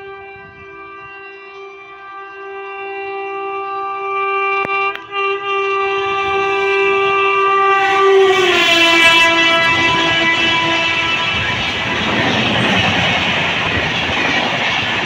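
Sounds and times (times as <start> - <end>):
locomotive two-note horn: 0.0 - 13.0
train rushing on rails: 0.0 - 15.0.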